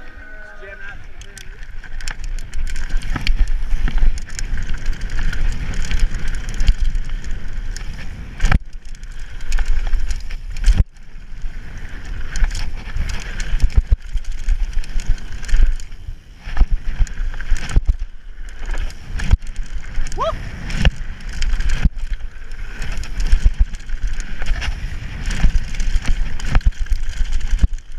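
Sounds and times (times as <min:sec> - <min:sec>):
wind: 0:00.0 - 0:27.9
bike clattering over bumps: 0:01.4 - 0:27.9.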